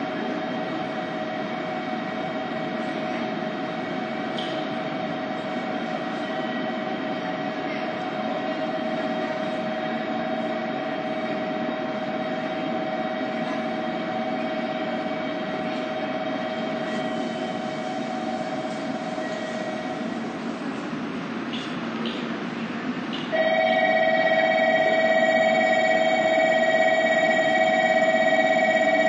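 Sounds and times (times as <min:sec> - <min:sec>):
train humming: 0:00.0 - 0:29.0.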